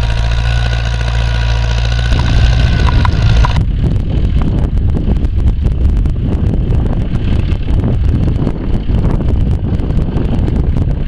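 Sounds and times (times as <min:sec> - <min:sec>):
tractor diesel engine running: 0:00.0 - 0:11.0
wind on microphone: 0:02.0 - 0:11.0.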